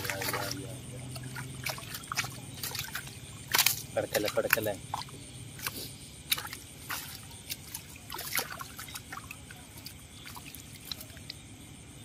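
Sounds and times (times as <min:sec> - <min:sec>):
water dripping and splashing: 0:00.0 - 0:11.5.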